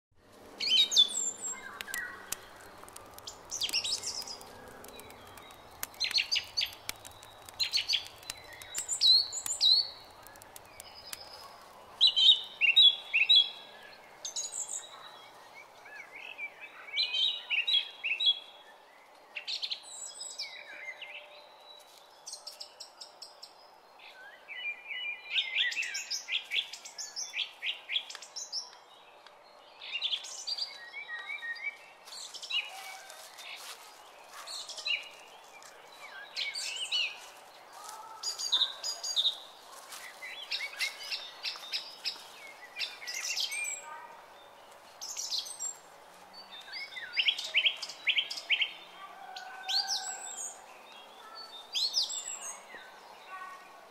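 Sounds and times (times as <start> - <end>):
songbirds chirping and trilling: 0.3 - 53.9.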